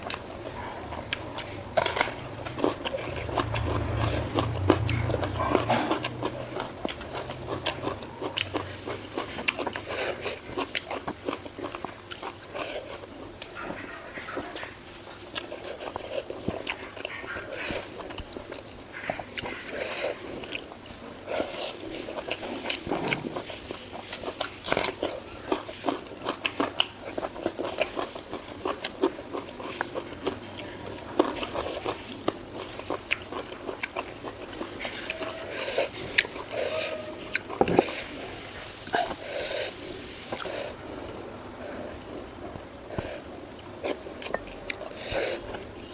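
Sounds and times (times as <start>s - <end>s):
wet chewing and biting: 0.0s - 38.3s.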